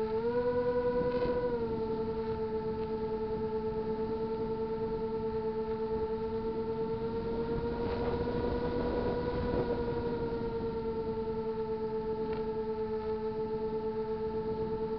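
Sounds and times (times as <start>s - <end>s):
model airplane motor whining: 0.0s - 14.9s.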